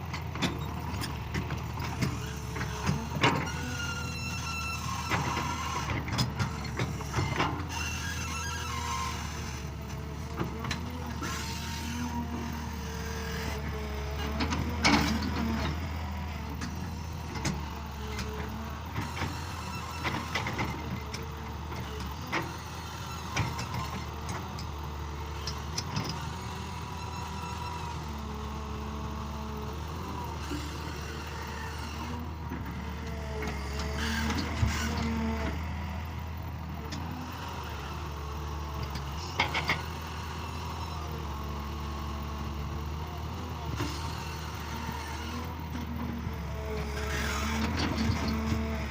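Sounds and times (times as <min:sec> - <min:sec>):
excavator diesel engine: 0:00.0 - 0:48.9.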